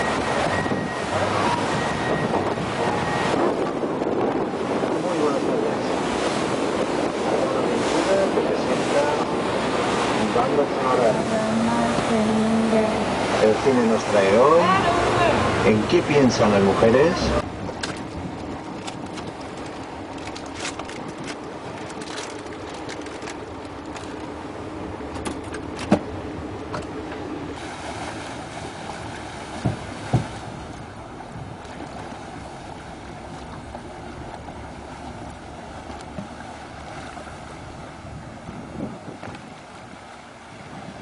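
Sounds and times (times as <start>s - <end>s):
boat engine running: 0.0s - 41.0s
water rushing: 0.0s - 41.0s.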